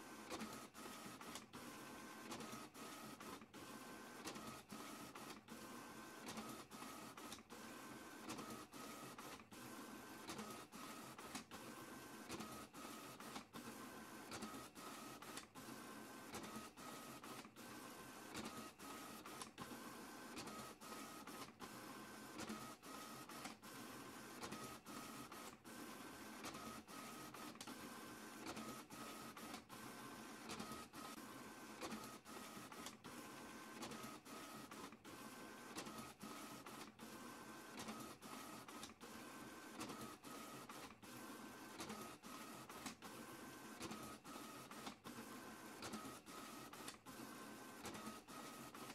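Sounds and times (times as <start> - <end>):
printer feeding and printing sheets: 0.0 - 48.9.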